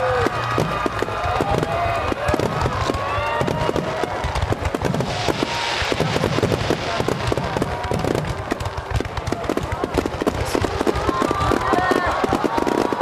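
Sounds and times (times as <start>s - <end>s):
fireworks bangs and crackles: 0.0s - 13.0s
hissing firework crackle: 0.0s - 13.0s
whistling firework shells: 0.0s - 13.0s.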